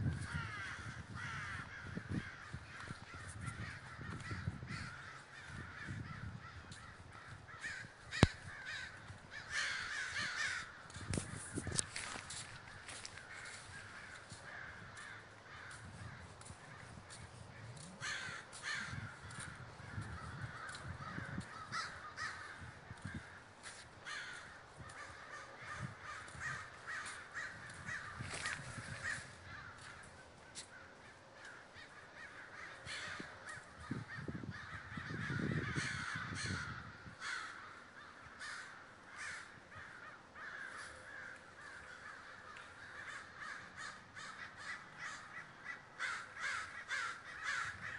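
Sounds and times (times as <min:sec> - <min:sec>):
crows cawing: 0:00.0 - 0:47.9.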